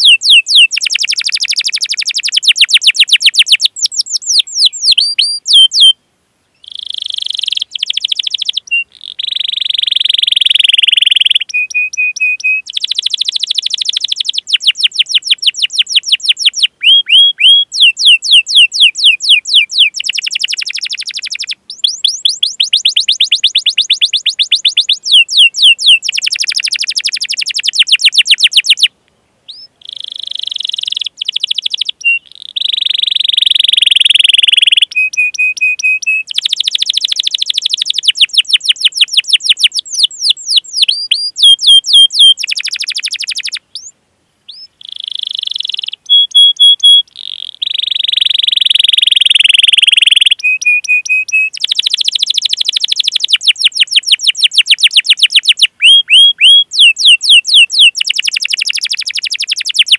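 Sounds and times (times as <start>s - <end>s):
canary singing trills: 0.0s - 28.9s, 29.5s - 59.9s.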